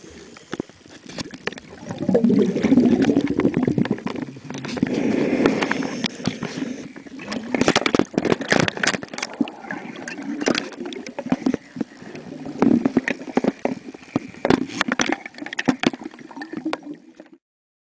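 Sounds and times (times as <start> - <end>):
clicks and pops: 0.5 - 17.4
air bubbles gurgling underwater: 1.2 - 17.4.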